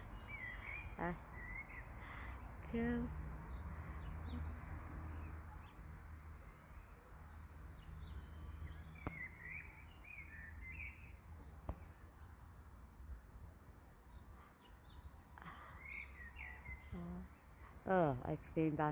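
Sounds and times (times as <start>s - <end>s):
songbirds chirping and singing: 0.0s - 12.2s, 13.4s - 18.9s.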